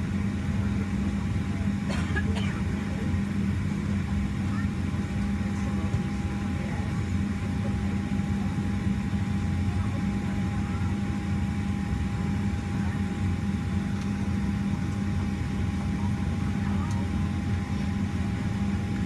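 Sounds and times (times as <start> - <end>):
aircraft cabin rumble: 0.2 - 19.0.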